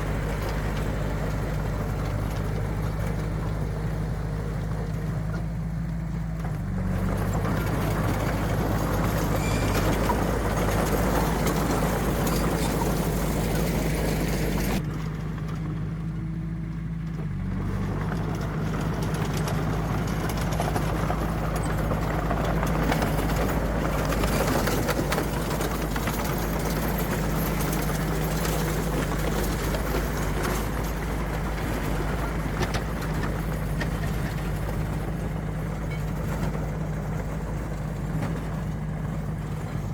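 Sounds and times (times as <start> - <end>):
heavy diesel machinery running: 0.0 - 39.9
rough working noise: 0.0 - 39.9.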